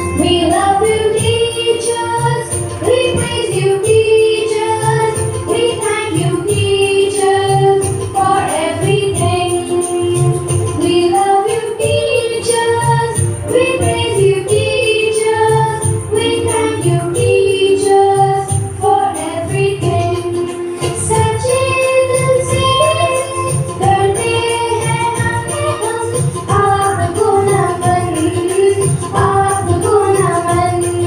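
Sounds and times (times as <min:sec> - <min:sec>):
dance song with singing: 0:00.0 - 0:31.0.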